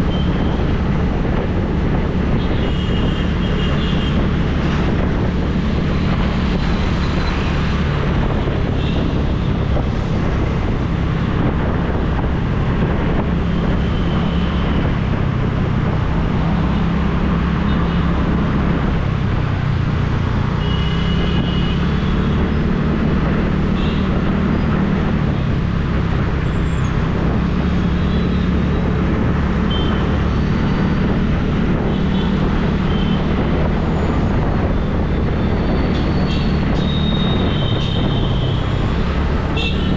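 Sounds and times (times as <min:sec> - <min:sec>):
street traffic noise: 0:00.0 - 0:39.9.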